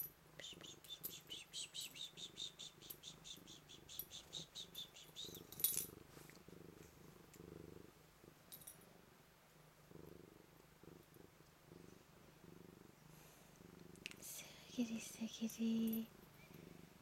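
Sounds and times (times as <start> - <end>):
cat purring: 0.2 - 17.0.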